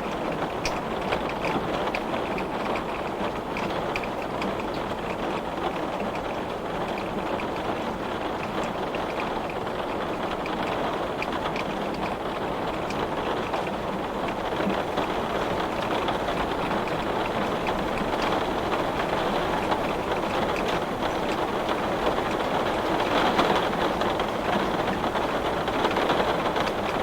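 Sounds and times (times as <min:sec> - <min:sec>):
heavy rain on glass: 0:00.1 - 0:27.0.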